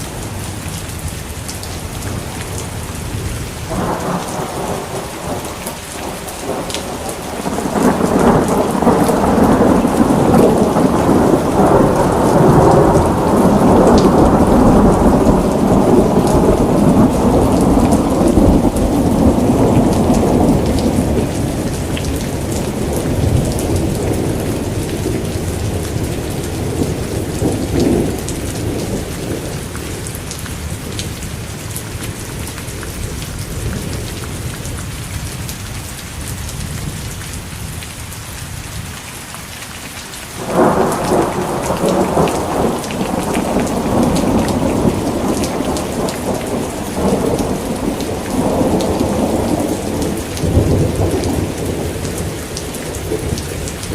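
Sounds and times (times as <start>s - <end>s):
heavy rain: 0.0s - 53.9s
rolling thunder: 1.8s - 34.7s, 40.4s - 53.9s.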